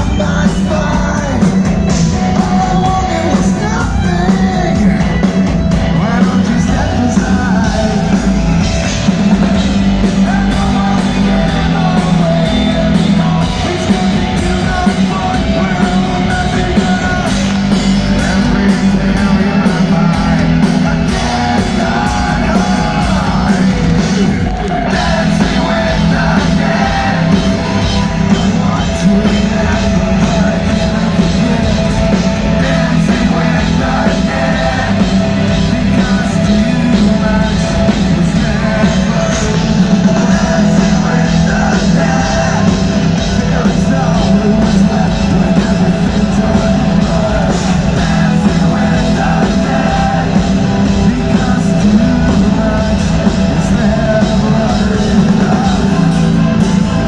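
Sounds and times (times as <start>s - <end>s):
bass guitar: 0.0s - 57.0s
distorted guitars: 0.0s - 57.0s
drums: 0.0s - 57.0s
shouted lead vocal: 0.0s - 57.0s.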